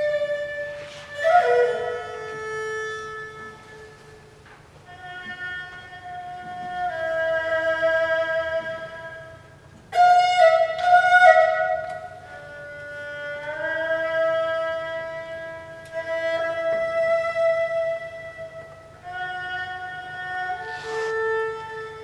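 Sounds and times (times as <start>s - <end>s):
erhu fiddle bowed: 0.0s - 22.0s.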